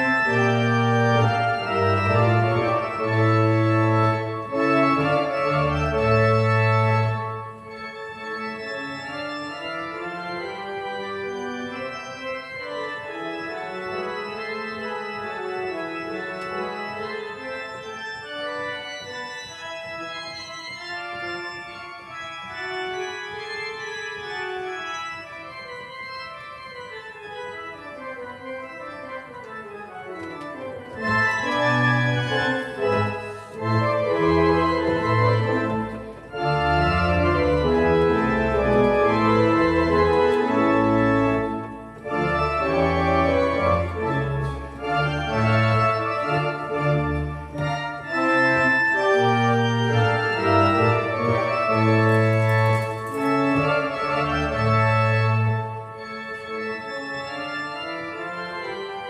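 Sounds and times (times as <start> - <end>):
church organ: 0.0 - 59.0
deep organ pedal notes: 0.0 - 59.0.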